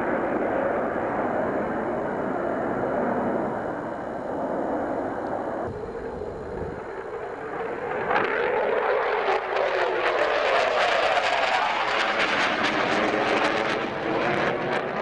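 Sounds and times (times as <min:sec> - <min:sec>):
fighter jet engine roaring: 0:00.0 - 0:15.0.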